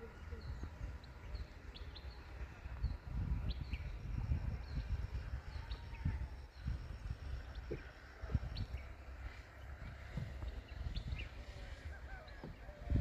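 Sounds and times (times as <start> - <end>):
low uneven rumble: 0.0 - 13.0
small birds chirping: 0.0 - 13.0.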